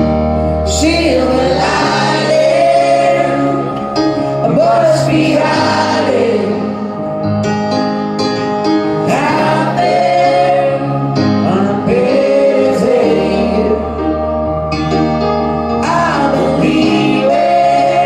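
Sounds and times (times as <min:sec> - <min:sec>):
sustained low instrumental notes: 0:00.0 - 0:18.0
voices singing together: 0:00.7 - 0:07.2, 0:09.0 - 0:15.1, 0:15.7 - 0:18.0.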